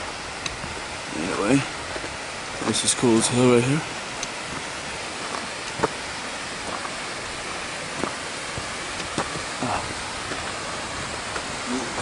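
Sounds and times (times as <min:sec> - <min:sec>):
small waterfall splashing: 0:00.0 - 0:12.0.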